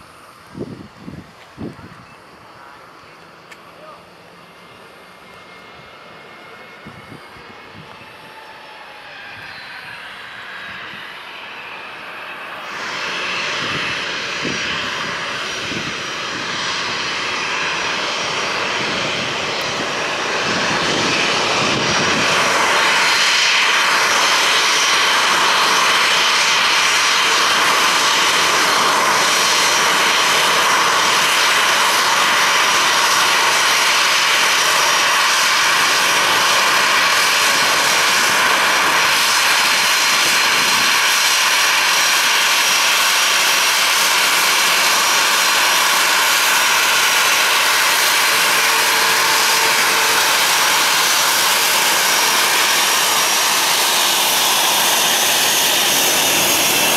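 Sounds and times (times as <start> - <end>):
jet engines rushing and whining: 0.0 - 56.9.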